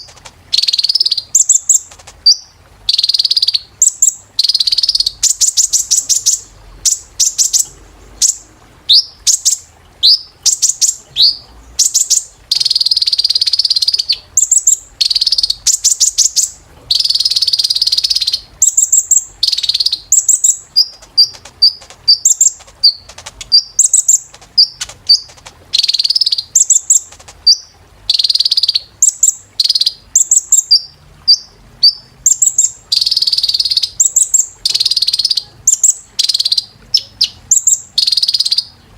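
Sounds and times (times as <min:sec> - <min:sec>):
sunbird chirping and trilling: 0:00.0 - 0:38.9.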